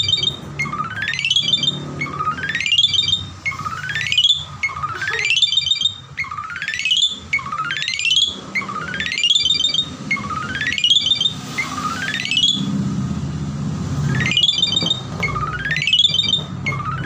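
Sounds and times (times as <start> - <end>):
starling buzzy call: 0.0 - 12.8, 14.0 - 17.0.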